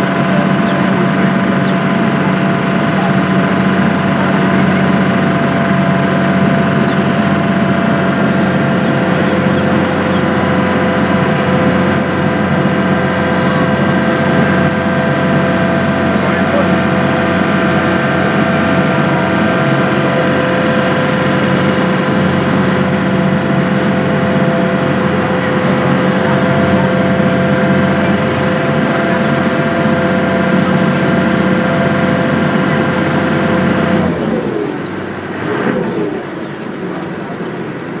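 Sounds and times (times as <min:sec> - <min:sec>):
ferry engine humming: 0:00.0 - 0:38.0
rushing water: 0:00.0 - 0:38.0.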